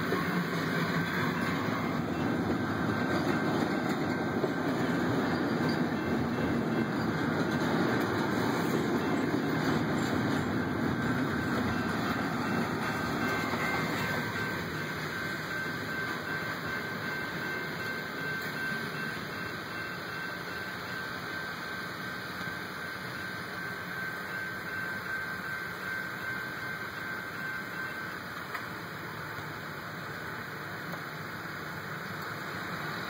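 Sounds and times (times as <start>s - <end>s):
steady high tone: 0.0s - 33.0s
train wheels on rail: 0.0s - 33.0s.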